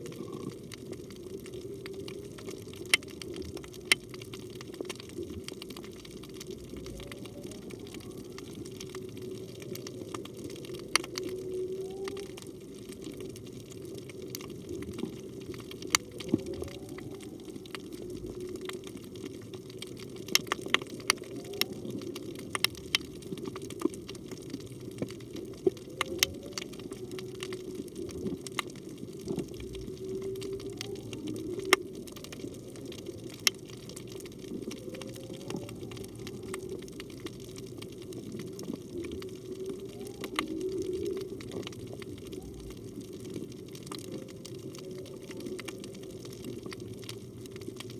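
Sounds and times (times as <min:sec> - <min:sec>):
whale song moans: 0:00.0 - 0:04.0, 0:06.0 - 0:19.4, 0:20.8 - 0:23.6, 0:24.3 - 0:47.2
sharp clicks and crackles: 0:00.0 - 0:47.9
underwater water noise: 0:00.0 - 0:47.9.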